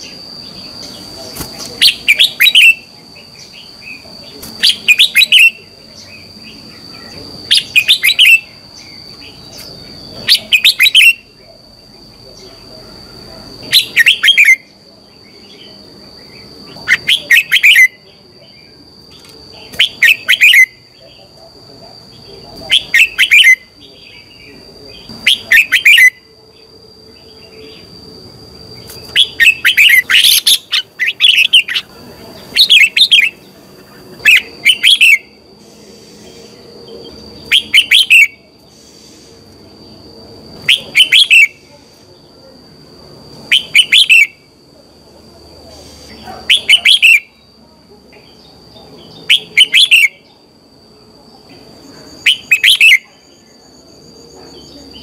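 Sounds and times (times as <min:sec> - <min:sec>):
faint steady high tone: 0:00.0 - 0:55.0.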